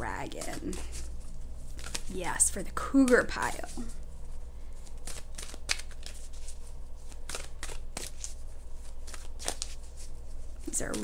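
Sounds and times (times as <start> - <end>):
cards shuffling and flicking: 0.3 - 11.0.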